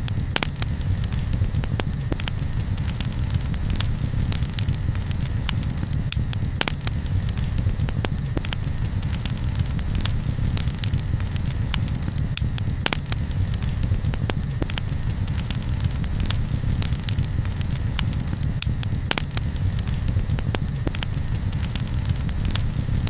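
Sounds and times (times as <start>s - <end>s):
campfire crackling: 0.0s - 23.0s
low fire rumble: 0.0s - 23.0s.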